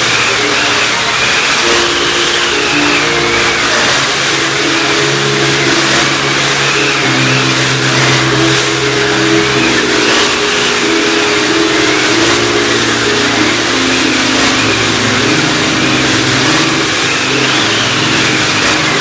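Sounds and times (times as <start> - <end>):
low held tones: 0.0 - 19.0
wind machine rushing hiss: 0.0 - 19.0.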